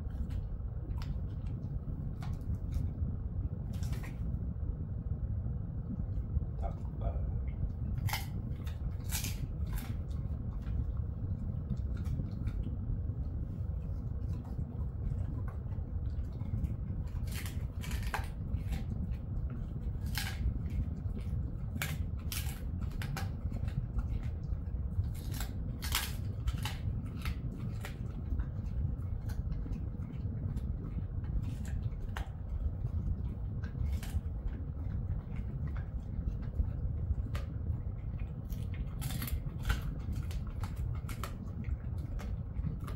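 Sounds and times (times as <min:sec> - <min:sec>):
dog chewing crunchily: 0:00.0 - 0:04.8, 0:05.8 - 0:42.9
low hum: 0:00.0 - 0:42.9.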